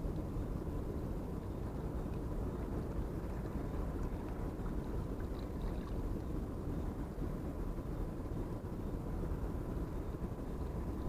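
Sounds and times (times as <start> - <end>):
low harbour rumble: 0.0 - 11.0.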